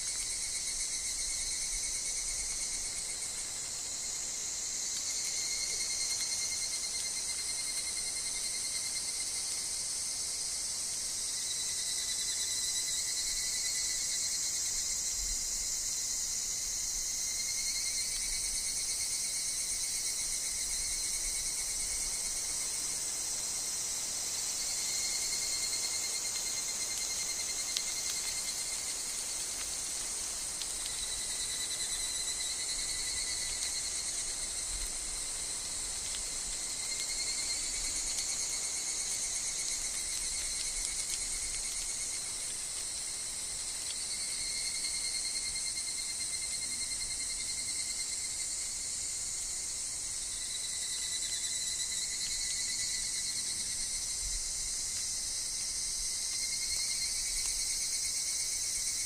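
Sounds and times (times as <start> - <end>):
pulsing cicada calls: 0.0 - 59.0.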